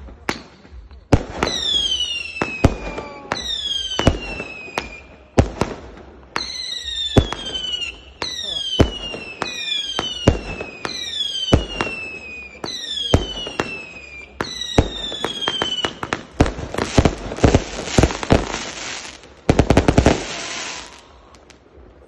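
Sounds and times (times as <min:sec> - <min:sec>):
whistling firework shots: 0:00.0 - 0:21.5
crackling firework volley: 0:00.0 - 0:22.0
firework bangs: 0:00.0 - 0:22.0.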